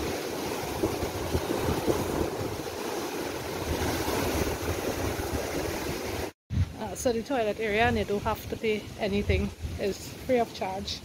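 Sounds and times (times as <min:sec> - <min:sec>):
sea surf washing against concrete: 0:00.0 - 0:11.0
wind gusting on microphone: 0:00.0 - 0:11.0.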